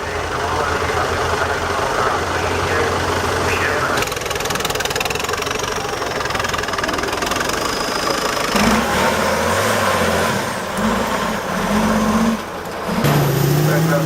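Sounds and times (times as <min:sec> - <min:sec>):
diesel engine clattering: 0:00.0 - 0:14.0.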